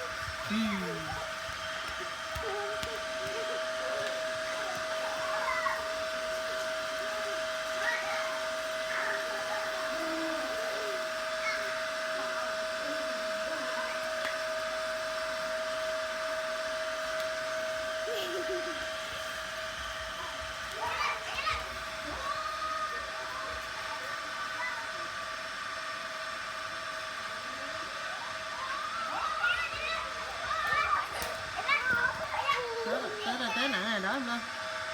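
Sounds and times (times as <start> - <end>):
toy train motor humming: 0.0 - 34.9.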